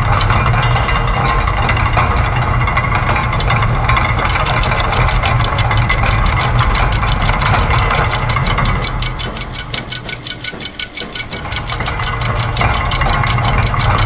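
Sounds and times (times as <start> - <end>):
fast sharp machine clicks: 0.0 - 14.0
low mechanical hum: 0.0 - 14.0.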